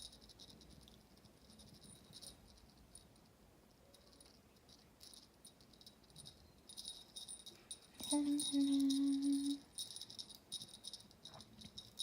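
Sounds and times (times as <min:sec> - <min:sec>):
high metallic jingling: 0:00.0 - 0:12.0.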